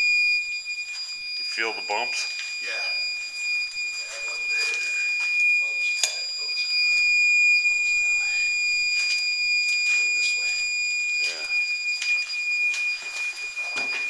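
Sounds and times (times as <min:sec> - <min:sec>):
high-pitched electronic tone: 0:00.0 - 0:14.0.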